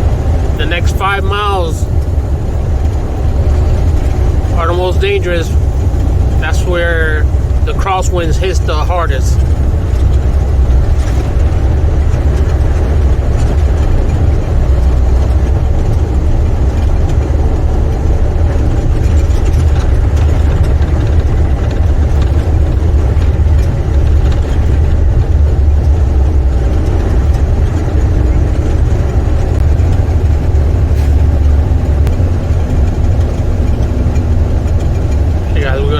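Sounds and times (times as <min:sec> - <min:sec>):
diesel truck engine rumble: 0:00.0 - 0:35.9
road and wind noise: 0:00.0 - 0:35.9.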